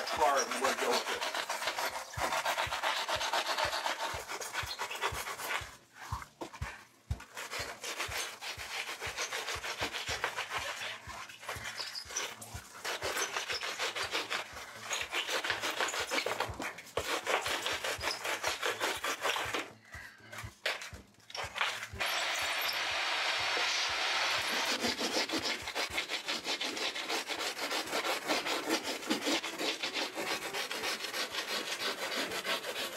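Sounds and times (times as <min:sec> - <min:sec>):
saw rasping through foam: 0:00.0 - 0:32.9.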